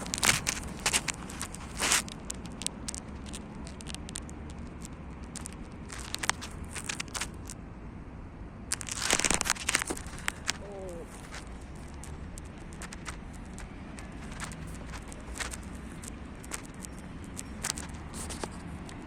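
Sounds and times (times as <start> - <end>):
rustling: 0.0 - 7.6, 8.7 - 19.0
low outdoor rumble: 0.0 - 19.0.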